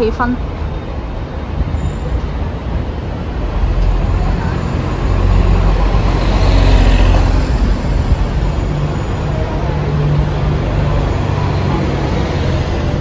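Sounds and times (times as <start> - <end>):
bus engine rumble: 0.0 - 13.0
street traffic: 0.0 - 13.0.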